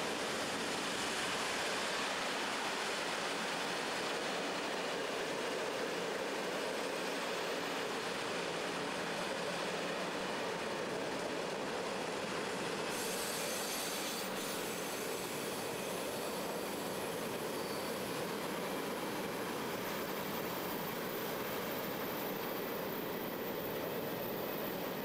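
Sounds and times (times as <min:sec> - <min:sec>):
hiss: 0:00.0 - 0:25.0
steel wheels running over rails: 0:00.0 - 0:25.0.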